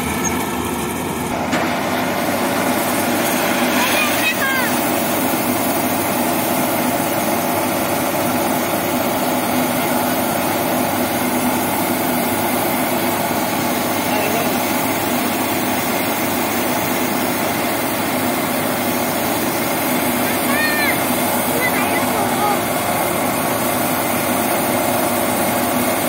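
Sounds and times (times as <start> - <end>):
combine harvester mechanical drone: 0.0 - 26.0.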